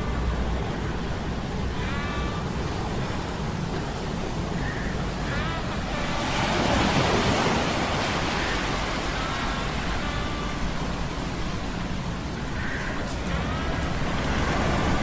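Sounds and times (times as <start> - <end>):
sea surf: 0.0 - 15.0
wave surging: 0.0 - 15.0
wind: 0.0 - 15.0.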